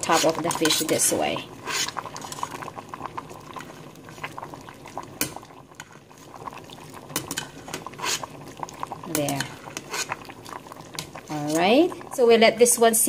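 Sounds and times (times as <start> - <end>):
sauce bubbling in a pot: 0.0 - 13.0.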